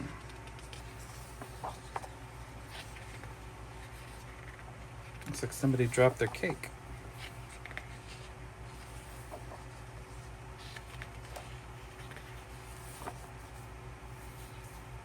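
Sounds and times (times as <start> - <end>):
steady low hum: 0.0 - 15.0
pages rustling: 0.3 - 15.0.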